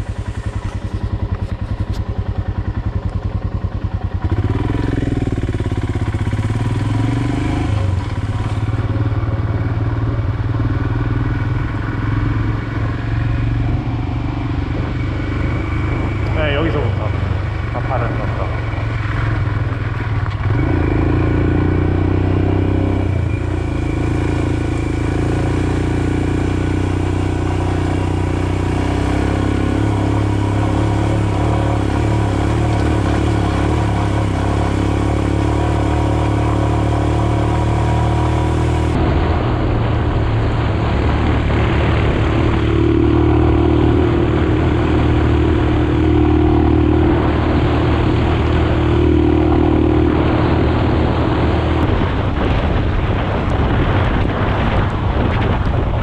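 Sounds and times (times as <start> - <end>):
motorcycle engine running at speed: 0.0 - 56.0.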